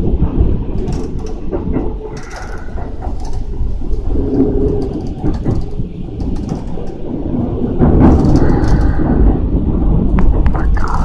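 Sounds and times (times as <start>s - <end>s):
clicks and rattles: 0.0s - 9.2s
train rumble inside carriage: 0.0s - 11.0s.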